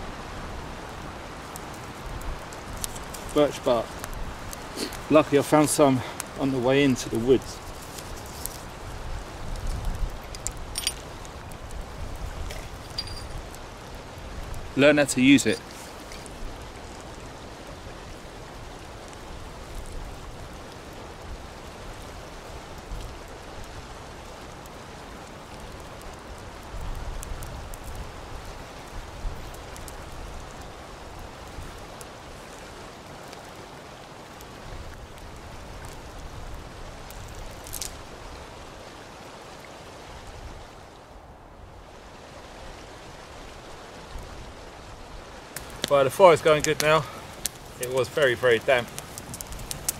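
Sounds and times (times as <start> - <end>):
campfire crackling and hissing: 0.0 - 49.9.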